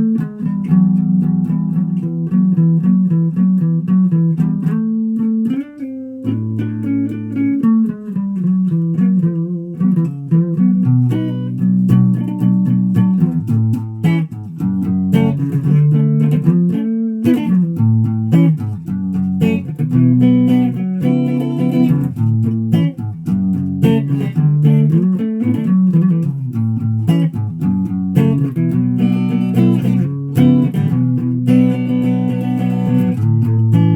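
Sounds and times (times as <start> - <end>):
plucked guitar notes: 0.0 - 33.9.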